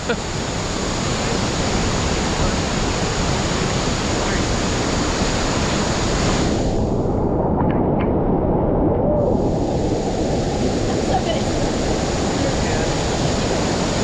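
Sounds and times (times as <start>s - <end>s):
waterfall crashing into pool: 0.0s - 6.7s, 9.2s - 14.0s.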